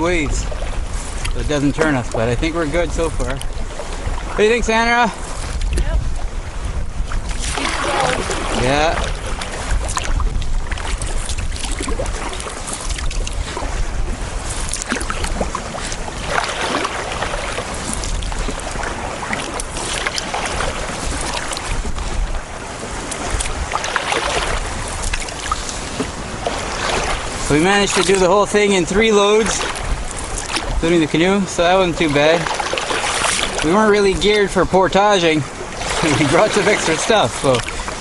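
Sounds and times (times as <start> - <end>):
water splashing against canoe: 0.0 - 38.0
wind buffeting microphone: 0.0 - 38.0.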